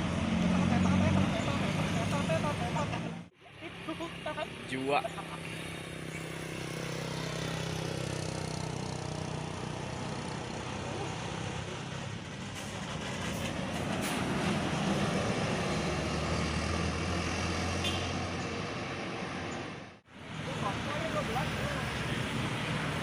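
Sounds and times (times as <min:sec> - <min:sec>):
bus engine running: 0:00.0 - 0:23.0
tyre and road noise: 0:00.0 - 0:23.0.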